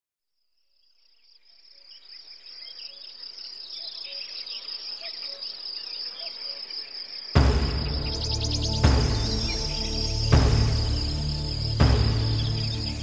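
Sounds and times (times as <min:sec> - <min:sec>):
high insect trill: 0:00.4 - 0:13.0
bird chirps: 0:00.6 - 0:13.0.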